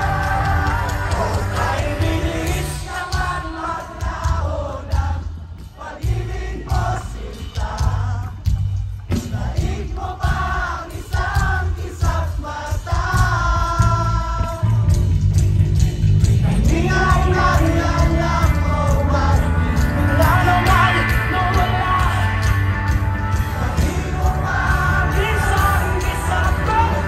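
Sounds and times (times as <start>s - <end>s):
crowd singing along: 0.0s - 27.0s
live rock band playing: 0.0s - 27.0s.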